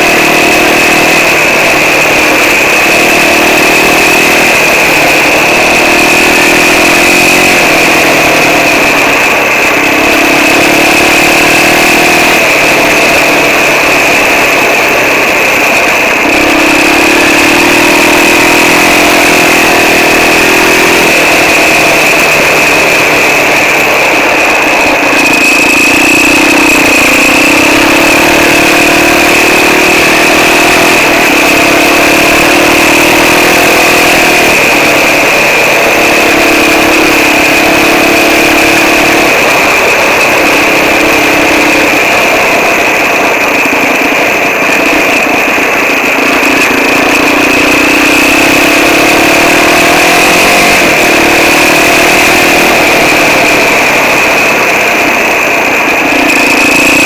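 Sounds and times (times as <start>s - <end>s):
high-pitched whine: 0.0s - 57.0s
quad bike engine revving: 0.0s - 57.0s.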